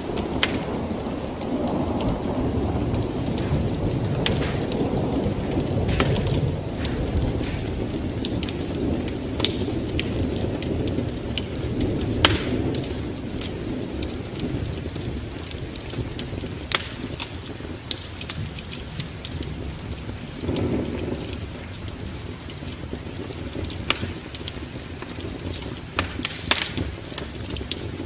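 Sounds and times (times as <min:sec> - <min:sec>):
fire crackling and popping: 0:00.0 - 0:28.0
low rumble of burning: 0:00.0 - 0:28.0.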